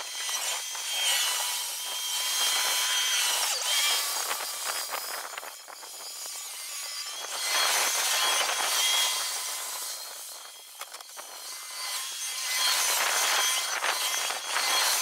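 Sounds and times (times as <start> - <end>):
high-pitched engine buzz: 0.0 - 15.0.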